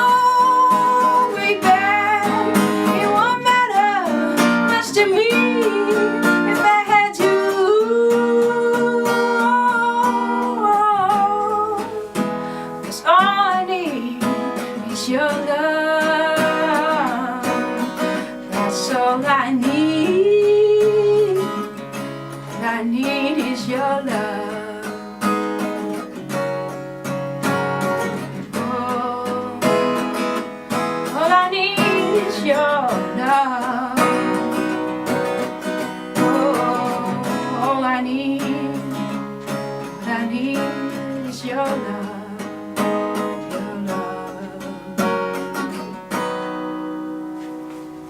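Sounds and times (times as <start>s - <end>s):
person singing: 0.0s - 21.8s, 22.5s - 25.2s, 28.1s - 30.4s, 31.1s - 45.3s
acoustic guitar strumming: 0.0s - 48.0s.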